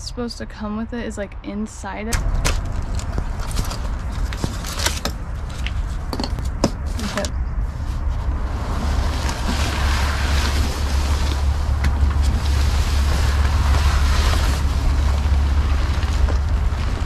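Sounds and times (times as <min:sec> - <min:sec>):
wind rumbling on microphone: 0:00.0 - 0:17.0
canvas tent rustling: 0:02.2 - 0:17.0.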